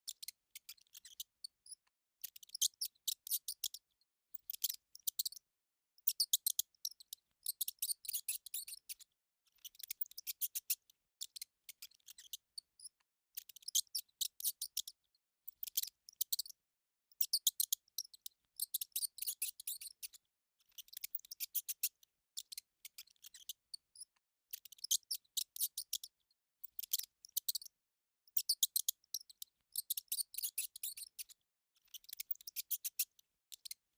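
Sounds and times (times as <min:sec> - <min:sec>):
mouse squeaking: 0:00.1 - 0:05.4, 0:06.0 - 0:33.9.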